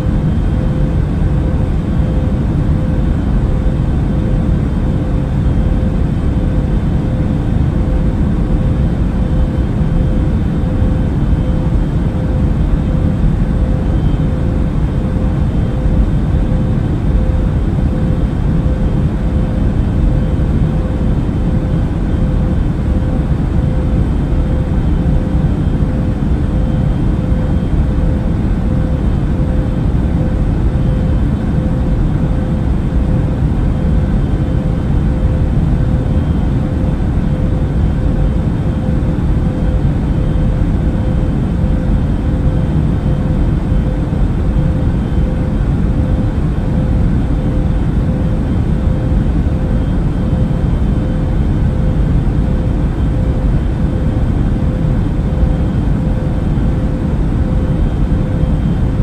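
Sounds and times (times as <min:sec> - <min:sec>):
airliner engine and air rush: 0:00.0 - 0:59.0
steady hum: 0:00.0 - 0:59.0.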